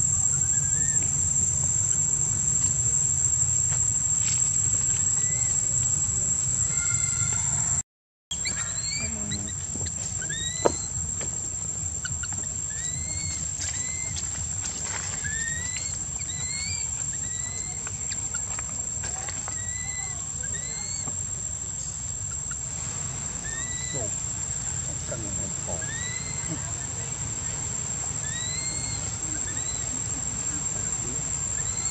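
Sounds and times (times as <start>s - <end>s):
low steady rumble: 0.0s - 7.8s, 8.5s - 31.9s
insects buzzing and chirping: 0.0s - 31.9s.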